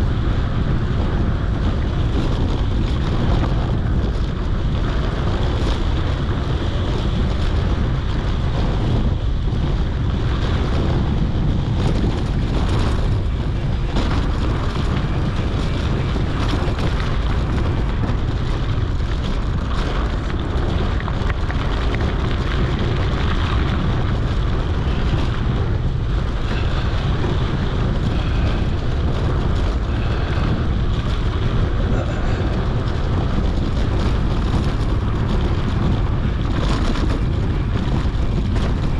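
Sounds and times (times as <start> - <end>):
bike tyres rolling on dirt: 0.0 - 38.9
wind buffeting microphone: 0.0 - 38.9.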